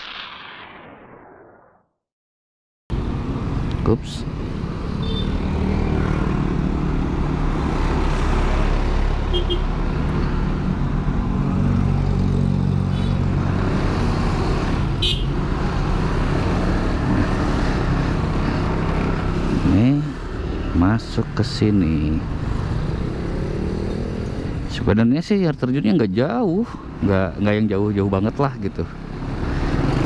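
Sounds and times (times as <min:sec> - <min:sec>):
road noise: 0:00.0 - 0:01.6, 0:02.9 - 0:30.0
passing traffic: 0:02.9 - 0:30.0.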